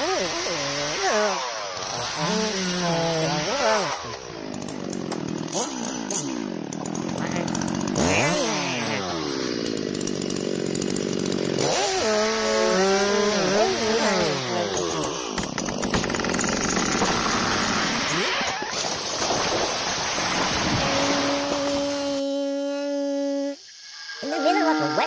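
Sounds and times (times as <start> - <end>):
chainsaw engine revving: 0.0 - 22.3.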